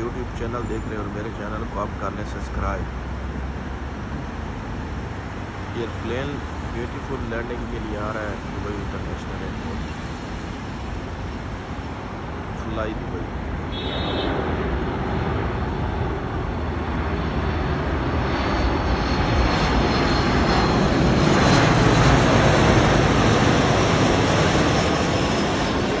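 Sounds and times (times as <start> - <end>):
jet engines of landing plane: 0.0 - 26.0.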